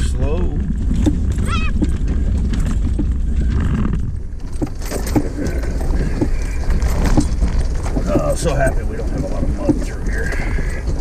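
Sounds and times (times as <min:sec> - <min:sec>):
knocks and rattles of vehicle body: 0:00.0 - 0:11.0
low engine rumble: 0:00.0 - 0:11.0.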